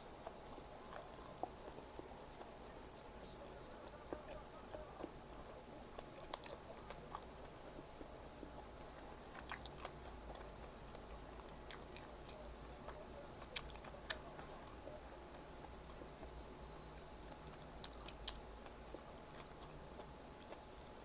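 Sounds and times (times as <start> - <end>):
person chewing food: 0.0 - 2.8, 3.8 - 21.0.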